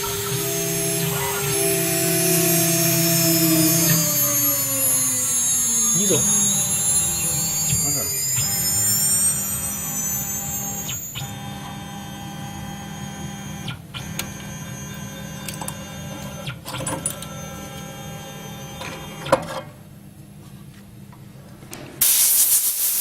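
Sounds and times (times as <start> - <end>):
router machine hum and whine: 0.0 - 19.4.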